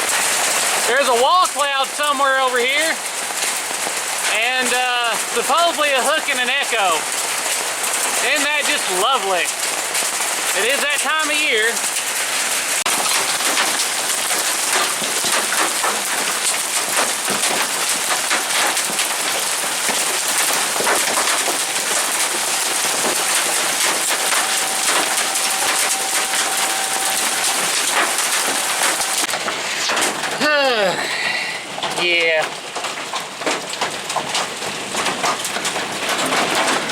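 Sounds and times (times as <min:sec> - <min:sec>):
rain on hard surfaces: 0:00.0 - 0:36.9.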